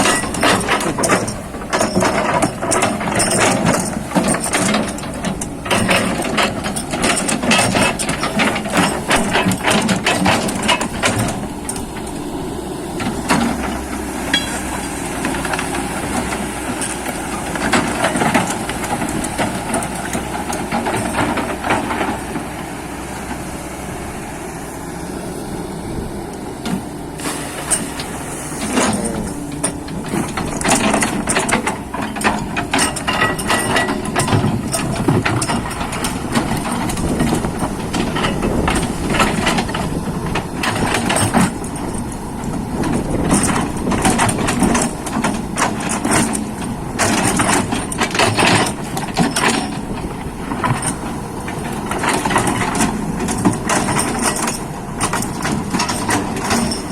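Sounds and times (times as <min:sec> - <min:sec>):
machine clanks and knocks: 0:00.0 - 0:23.5, 0:26.0 - 0:56.9
excavator diesel engine running: 0:00.0 - 0:56.9.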